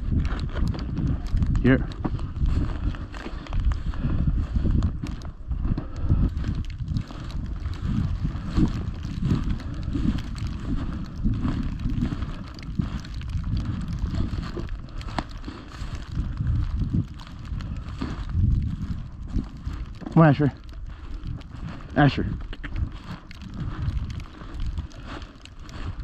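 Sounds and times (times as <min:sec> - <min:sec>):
footsteps in snow and grass: 0:00.0 - 0:26.0
wind buffeting microphone: 0:00.0 - 0:26.0.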